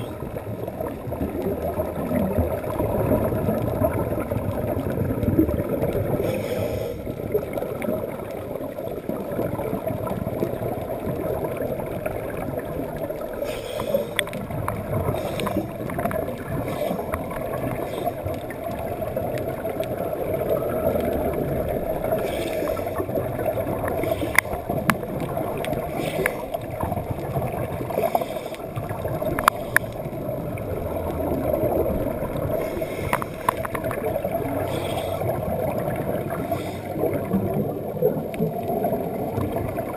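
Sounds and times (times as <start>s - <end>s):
exhaled air bubbles gurgling: 0.0s - 39.9s
muffled underwater rumble: 0.0s - 39.9s.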